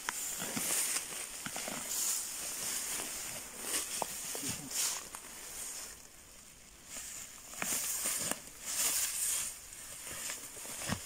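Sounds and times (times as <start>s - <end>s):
grass swishing against legs: 0.0s - 6.1s, 6.8s - 11.0s.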